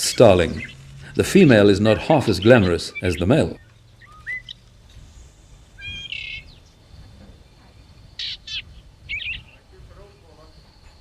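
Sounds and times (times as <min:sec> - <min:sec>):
bird chatter: 0:00.0 - 0:11.0
small bird calling: 0:00.0 - 0:11.0.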